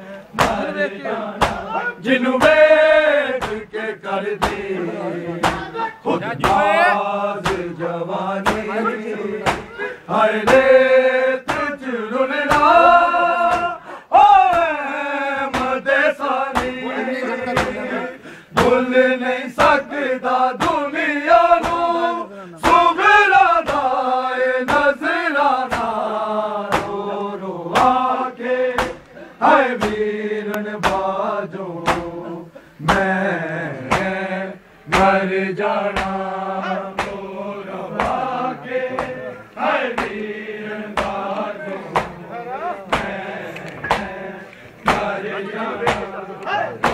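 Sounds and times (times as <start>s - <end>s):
men chanting a lament: 0.0s - 46.9s
rhythmic chest-beating slaps: 0.3s - 46.9s.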